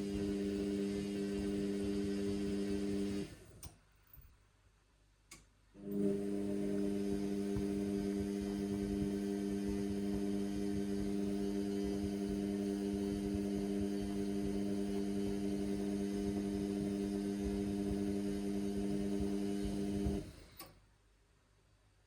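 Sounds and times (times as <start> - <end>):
drain pump humming: 0.0 - 3.4, 5.8 - 20.5.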